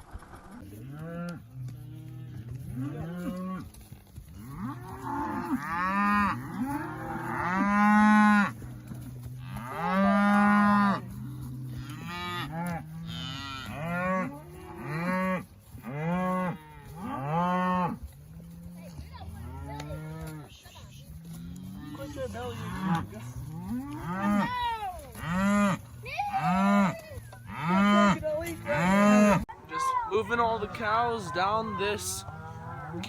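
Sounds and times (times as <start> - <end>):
cattle mooing: 4.4 - 20.6, 21.2 - 33.0.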